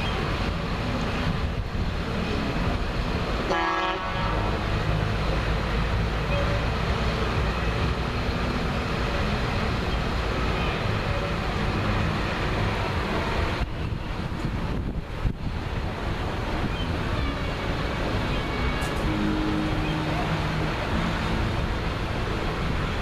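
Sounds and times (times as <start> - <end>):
tractor engines running: 0.0 - 23.0.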